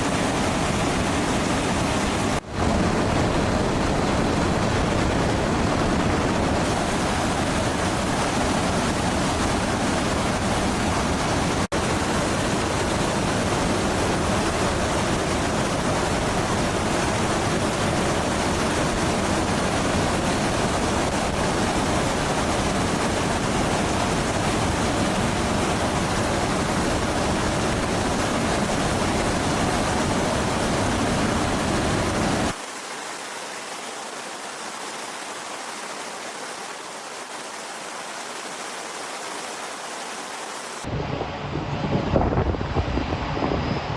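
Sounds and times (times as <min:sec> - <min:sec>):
jet aircraft rushing noise: 0:00.0 - 0:32.6, 0:40.5 - 0:43.9.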